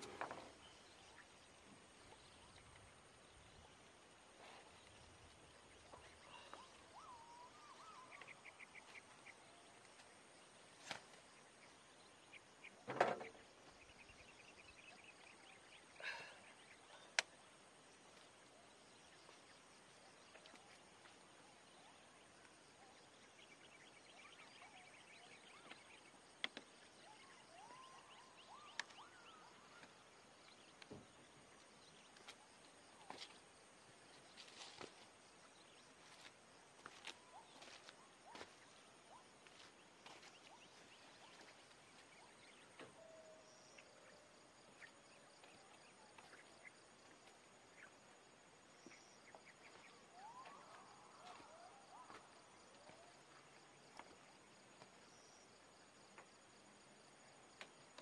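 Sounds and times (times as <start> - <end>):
faint bird chirps: 0.0 - 58.0.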